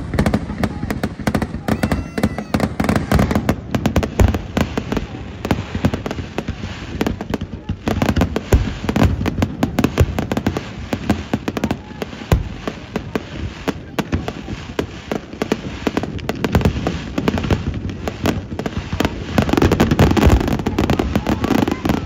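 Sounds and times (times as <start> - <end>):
fireworks crackling and booming: 0.0 - 22.0.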